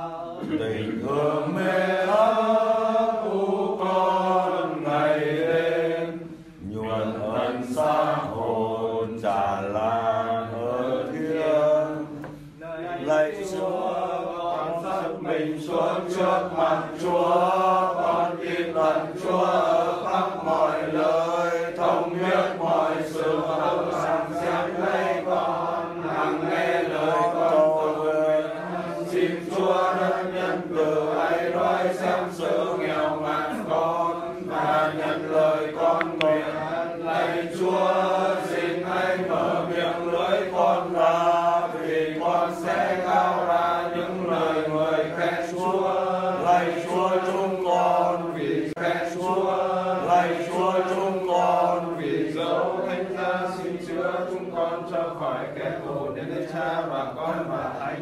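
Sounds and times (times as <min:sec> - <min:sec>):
voices chanting prayer: 0:00.0 - 0:58.0.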